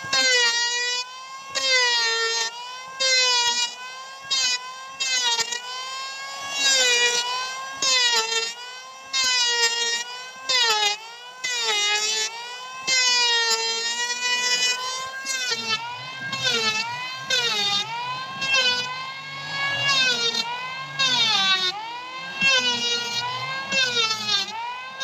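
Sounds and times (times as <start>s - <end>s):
electric planer whining: 0.0s - 25.0s
planer blades cutting wood: 0.0s - 25.0s.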